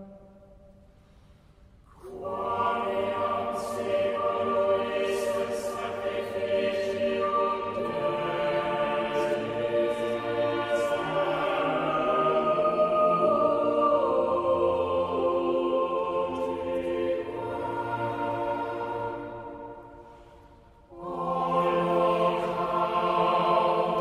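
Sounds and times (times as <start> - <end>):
choir singing held chords: 2.0 - 24.0.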